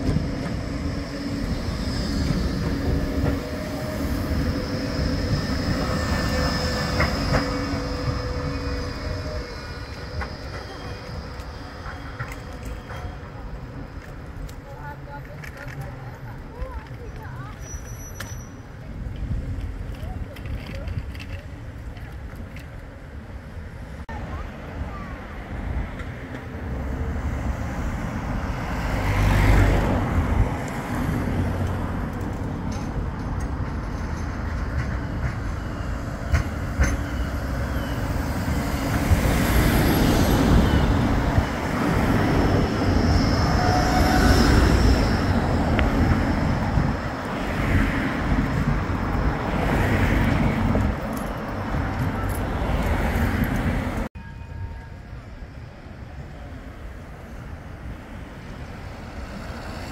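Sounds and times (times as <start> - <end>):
road traffic: 0.0 - 59.9
tram passing on rails: 0.0 - 59.9.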